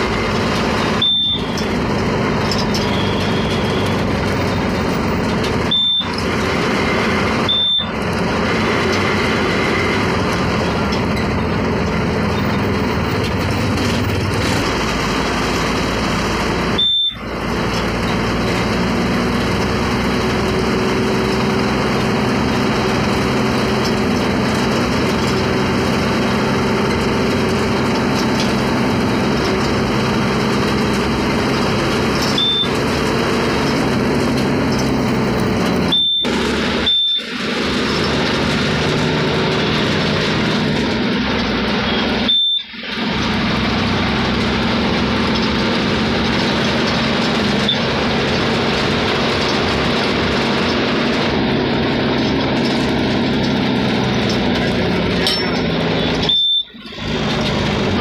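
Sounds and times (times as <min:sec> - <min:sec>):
vehicle engine drone and road noise: 0:00.0 - 0:58.0.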